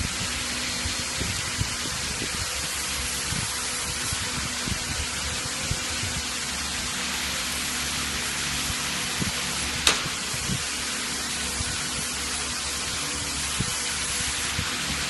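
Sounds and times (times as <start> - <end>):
pneumatic machine hiss: 0.0 - 15.0.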